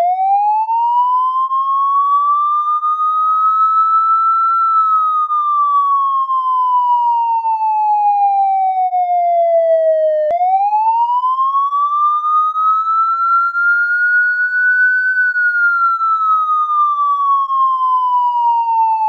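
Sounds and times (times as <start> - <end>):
police siren wailing: 0.0 - 19.0.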